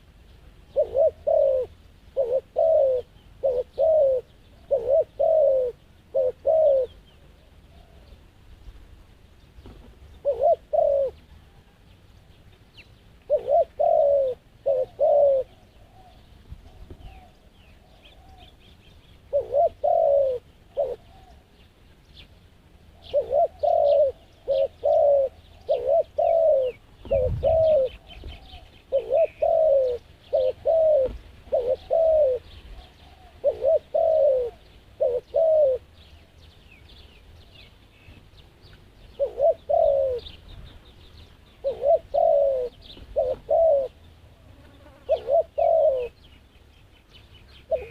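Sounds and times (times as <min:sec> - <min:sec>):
small birds chirping: 0:00.0 - 0:47.9
dove cooing: 0:00.6 - 0:08.2, 0:09.7 - 0:11.8, 0:12.7 - 0:21.6, 0:22.8 - 0:36.1, 0:39.1 - 0:40.5, 0:41.1 - 0:46.3, 0:47.5 - 0:47.9.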